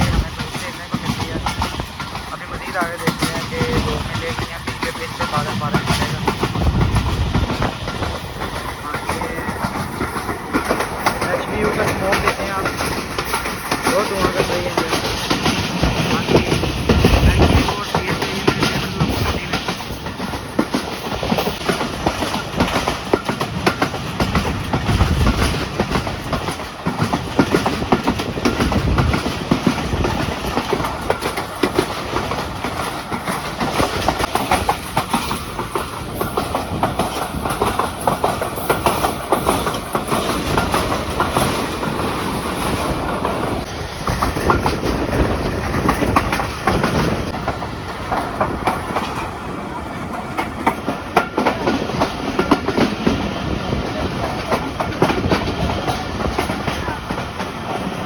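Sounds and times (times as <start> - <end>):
train rumble: 0.0 - 58.0
wheels clattering over rail joints: 0.0 - 58.0.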